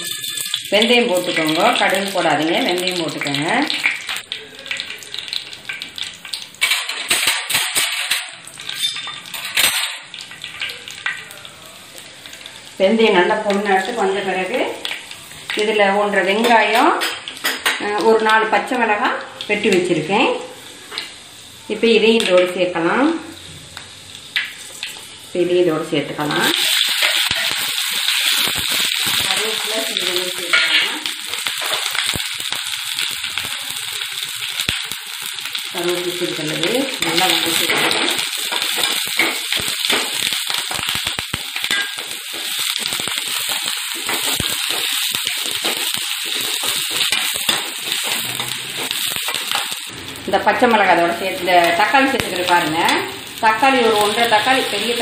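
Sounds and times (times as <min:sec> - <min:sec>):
seeds sizzling and popping in oil: 0:00.0 - 0:55.0.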